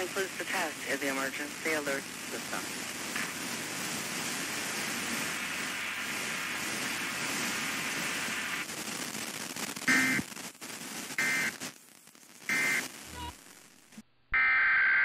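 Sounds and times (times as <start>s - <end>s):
radio static hiss: 0.0s - 15.0s
buzzy data bursts: 1.1s - 11.8s, 12.4s - 13.8s.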